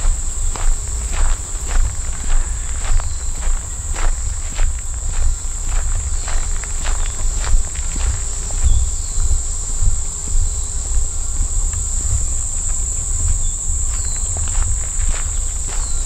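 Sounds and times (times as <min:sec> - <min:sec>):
footsteps on trail: 0:00.0 - 0:16.0
insect chorus drone: 0:00.0 - 0:16.0
low rumble on microphone: 0:00.0 - 0:16.0.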